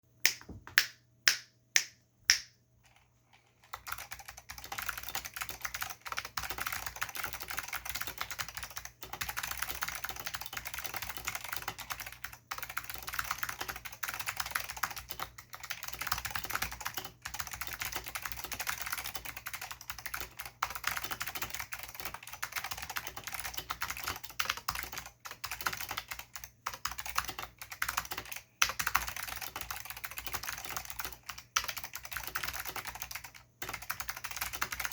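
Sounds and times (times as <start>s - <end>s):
mechanical keyboard typing: 2.3s - 34.9s.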